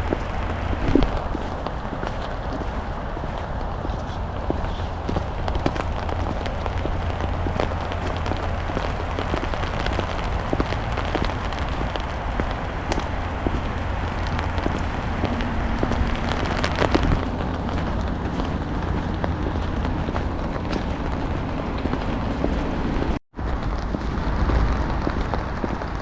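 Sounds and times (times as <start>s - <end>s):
rain and wet snow pattering: 0.0s - 26.0s
steady low rumble: 0.0s - 26.0s.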